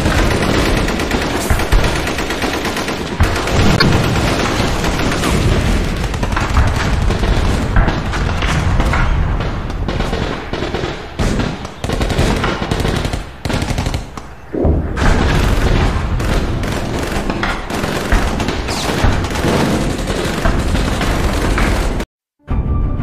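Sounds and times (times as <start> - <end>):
rapid machine-gun fire: 0.0 - 14.1, 15.0 - 22.1.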